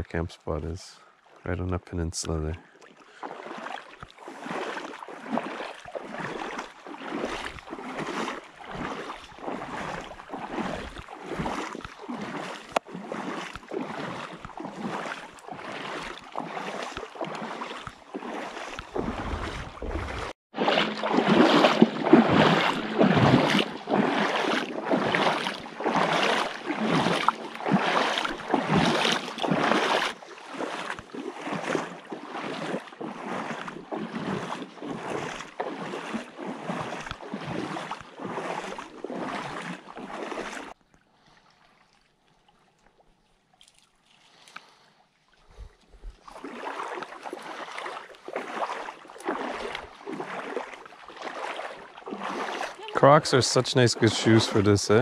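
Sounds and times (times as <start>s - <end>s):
footsteps splashing in shallow water: 0.0s - 55.0s.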